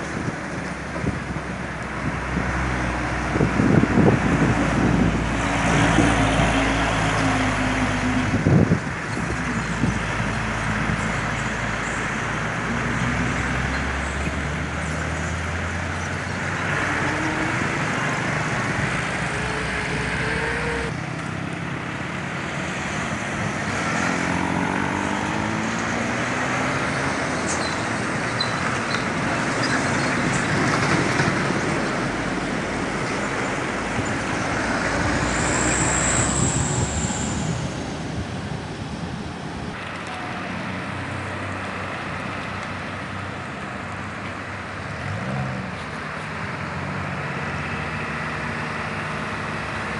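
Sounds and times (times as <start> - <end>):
truck engines pulling: 0.0 - 49.9.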